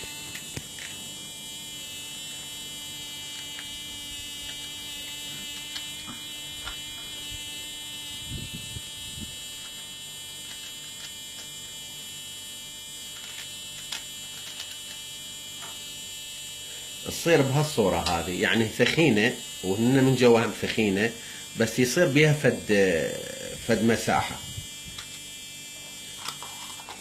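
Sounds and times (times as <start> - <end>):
appliance hum with high whine: 0.0 - 27.0.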